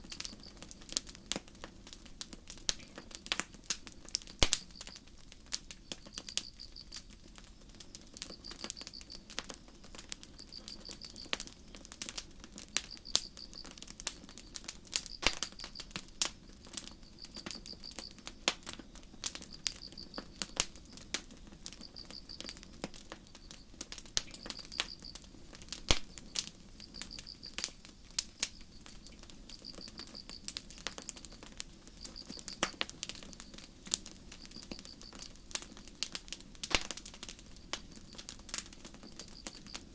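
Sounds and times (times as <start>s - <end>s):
crickets chirping: 0.0s - 0.8s, 3.9s - 39.9s
campfire crackling and popping: 0.0s - 39.9s.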